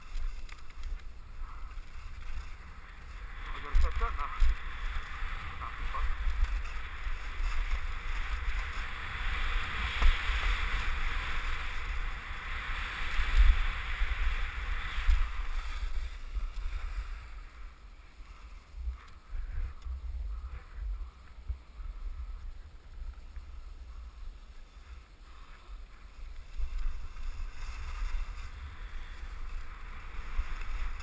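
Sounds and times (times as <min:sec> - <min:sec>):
skis sliding on packed snow: 0:00.0 - 0:31.0
wind rumbling on microphone: 0:00.0 - 0:31.0.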